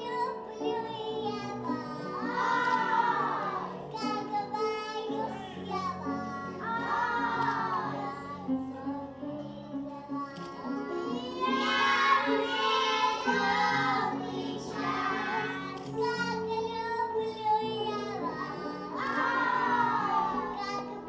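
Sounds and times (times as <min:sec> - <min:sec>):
child singing: 0:00.0 - 0:21.0
instrumental music: 0:00.0 - 0:21.0.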